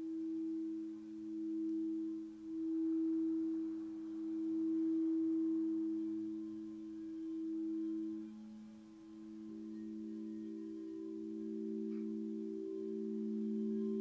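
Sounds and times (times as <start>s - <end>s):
singing bowls ringing: 0.0s - 14.0s.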